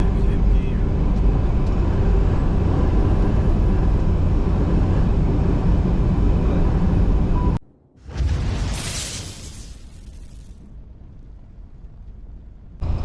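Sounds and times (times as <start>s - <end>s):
moving vehicle rumble: 0.0s - 7.6s, 9.9s - 13.0s.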